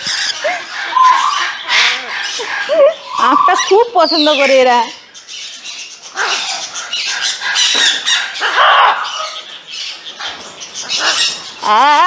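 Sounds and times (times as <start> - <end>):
parrots squawking: 0.0 - 12.0.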